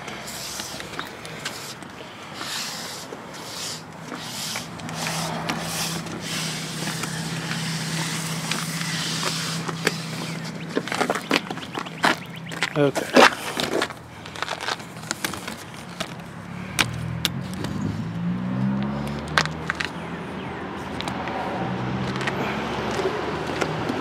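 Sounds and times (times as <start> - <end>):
tire scraping and knocking: 0.0 - 24.0.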